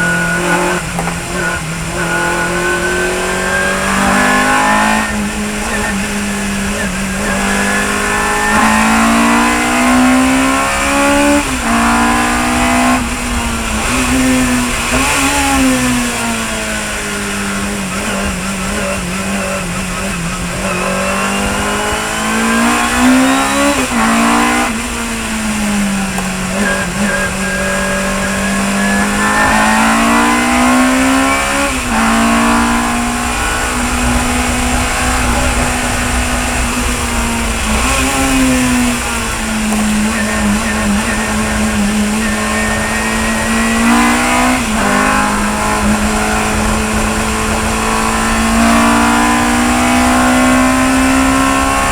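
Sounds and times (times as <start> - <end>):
racing car engine revving: 0.0 - 51.9.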